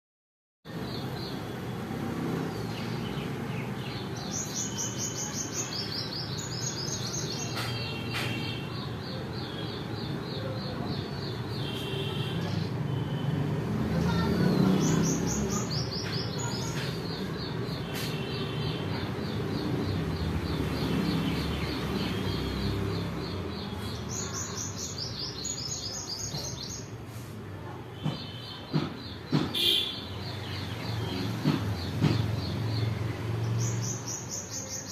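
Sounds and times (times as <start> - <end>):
birds chirping: 0.7 - 27.0, 28.0 - 34.9.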